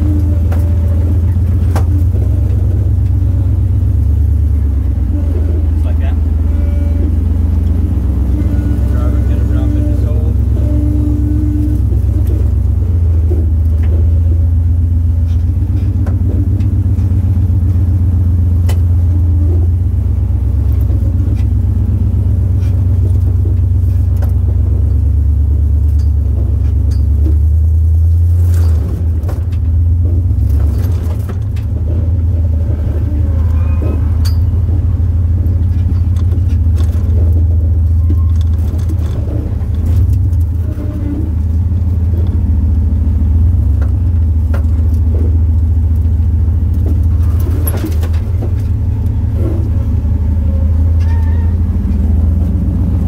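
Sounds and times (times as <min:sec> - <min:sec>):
engine rumbling at low speed: 0:00.0 - 0:53.0
knocks and rattles: 0:00.0 - 0:53.0.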